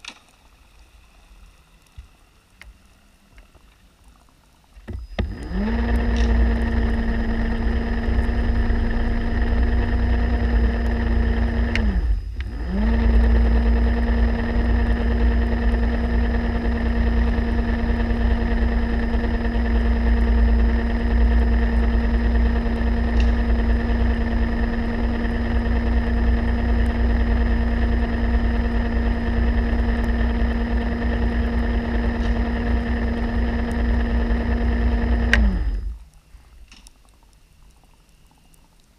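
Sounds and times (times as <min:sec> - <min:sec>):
underwater scooter motor hum: 0:00.0 - 0:38.9.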